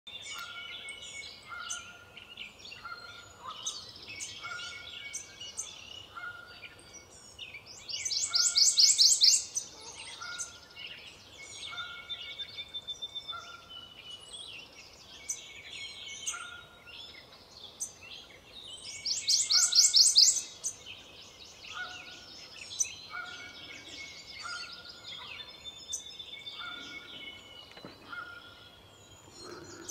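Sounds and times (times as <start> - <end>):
bird song of rapid high notes: 0.1 - 29.9
softer bird calls: 0.3 - 29.9.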